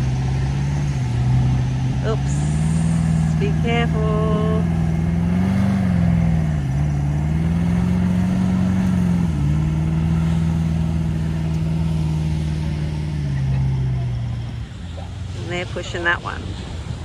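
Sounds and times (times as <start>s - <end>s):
engine revving high: 0.0s - 16.8s.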